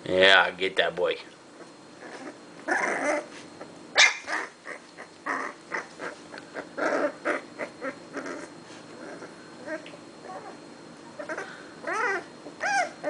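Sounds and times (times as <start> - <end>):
puppies yelping and crying: 2.0 - 13.0.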